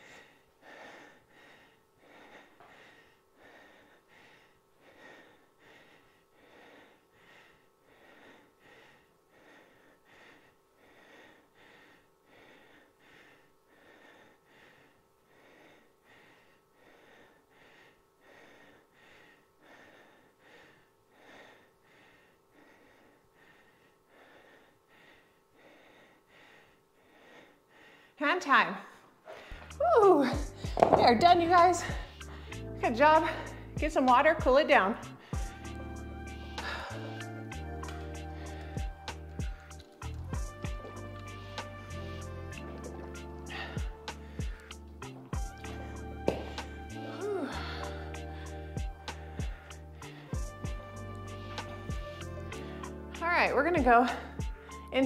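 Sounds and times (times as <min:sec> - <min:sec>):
woman breathing rhythmically: 0:00.0 - 0:55.0.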